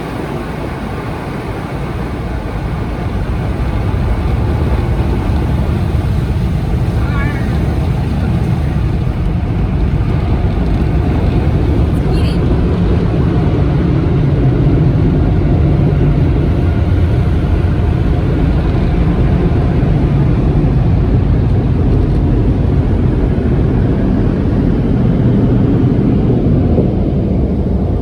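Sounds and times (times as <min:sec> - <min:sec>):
car wash machinery roaring: 0:00.0 - 0:28.0.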